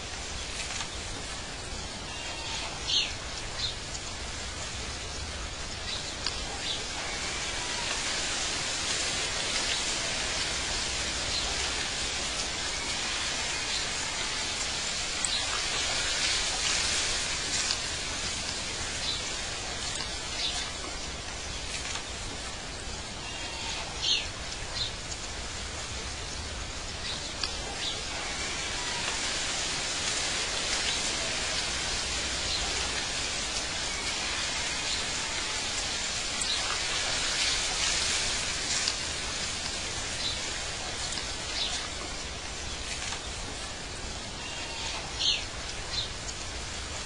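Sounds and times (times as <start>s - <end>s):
steady hiss: 0.0s - 47.0s.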